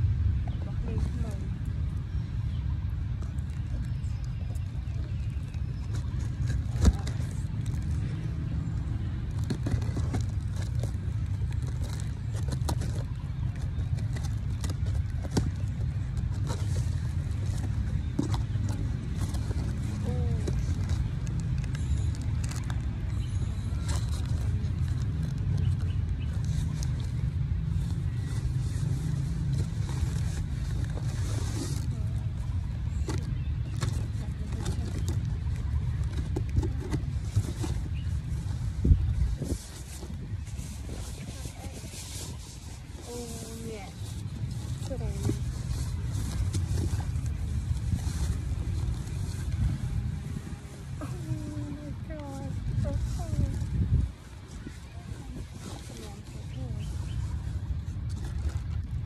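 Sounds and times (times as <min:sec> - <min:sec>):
steady low rumble: 0:00.0 - 0:59.0
cardboard and tape scraping: 0:05.6 - 0:59.0.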